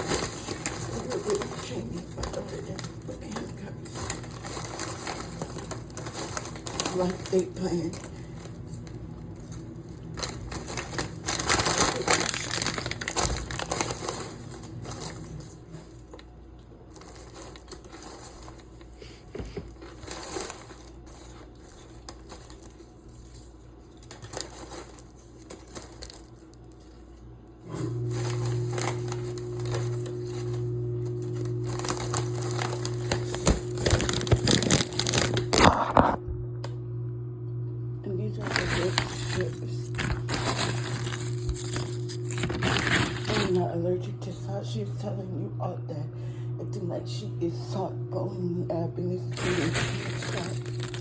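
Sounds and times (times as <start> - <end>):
crinkling handling noise: 0.0 - 36.3, 38.3 - 43.7, 49.3 - 51.0
steady low hum: 0.0 - 51.0.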